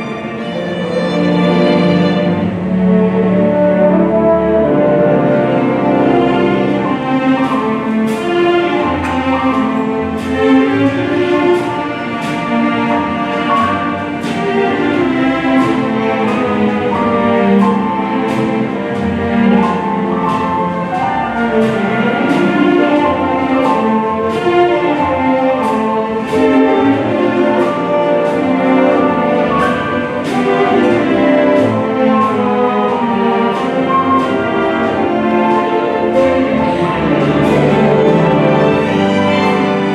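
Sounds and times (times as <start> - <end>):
symphony orchestra playing: 0.0 - 39.9
light percussion beat: 5.3 - 39.9.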